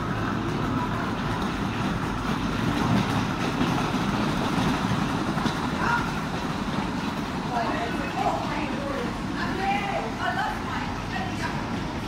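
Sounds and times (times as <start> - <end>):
engines and ground machinery rumble: 0.0 - 12.0.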